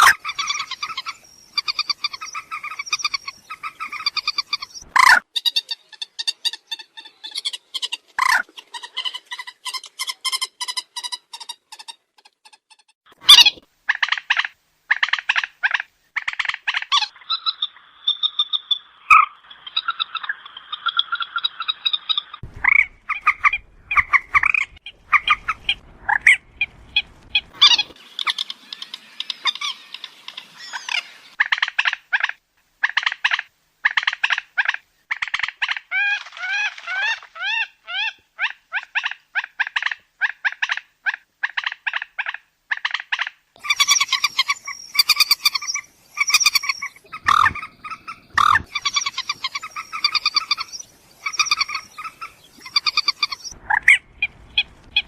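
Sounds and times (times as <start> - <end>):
moorhen calling: 0.0 - 12.0, 13.2 - 55.0.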